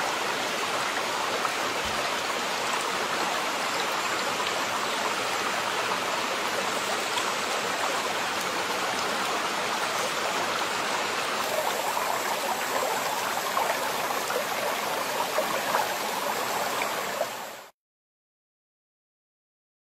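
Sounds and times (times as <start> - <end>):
stream flowing over rocks: 0.0 - 17.7.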